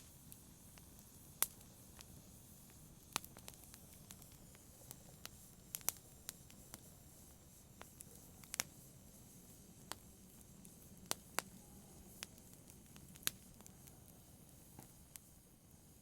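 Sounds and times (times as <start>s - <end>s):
faint steady hiss: 0.0s - 16.0s
wood fire crackling: 0.0s - 16.0s.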